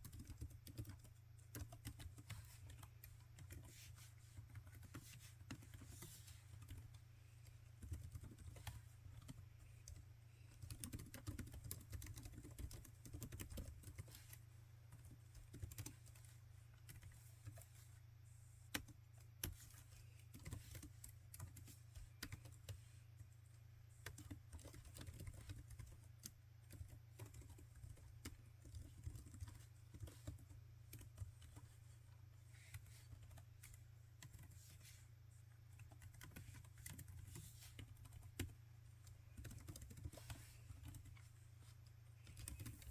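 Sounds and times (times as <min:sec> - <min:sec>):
laptop keyboard typing: 0:00.0 - 0:17.7, 0:18.7 - 0:22.9, 0:23.9 - 0:31.8, 0:32.7 - 0:35.0, 0:35.7 - 0:42.9
faint low hum: 0:00.0 - 0:42.9.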